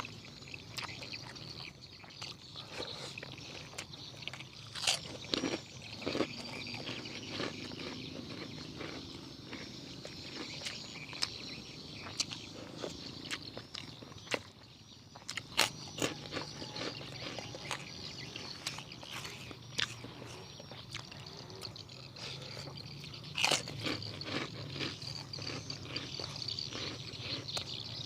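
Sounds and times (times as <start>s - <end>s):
chewing and crunching chicken: 0.0s - 28.0s.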